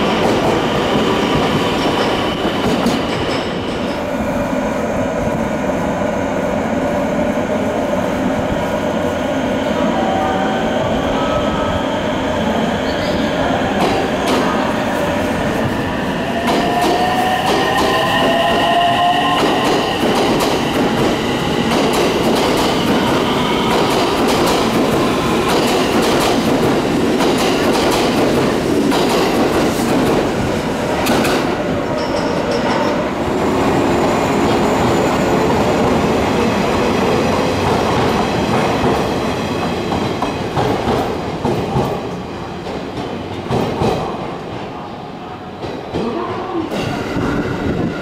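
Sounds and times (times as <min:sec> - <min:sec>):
low train hum: 0:00.0 - 0:48.0.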